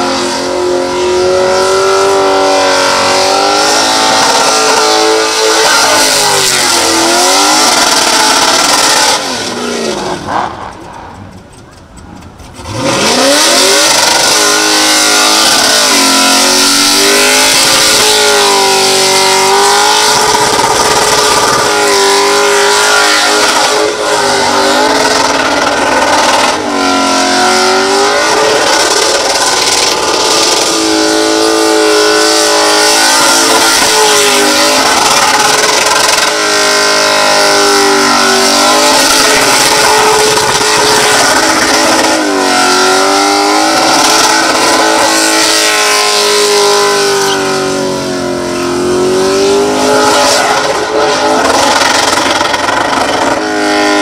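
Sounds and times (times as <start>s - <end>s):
car engine revving hard: 0.0s - 10.8s, 12.6s - 54.0s
spinning tyres hissing: 1.5s - 47.9s.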